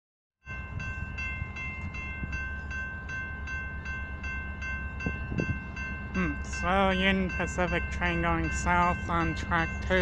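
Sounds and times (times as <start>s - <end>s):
railroad crossing bell ringing: 0.4s - 10.0s.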